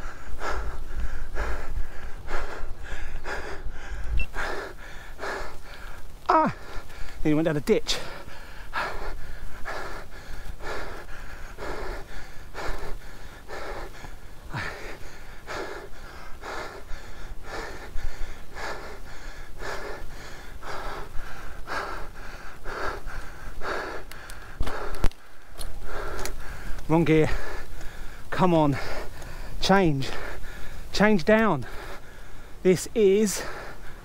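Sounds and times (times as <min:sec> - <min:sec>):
person breathing hard: 0:00.0 - 0:07.2, 0:07.9 - 0:34.0.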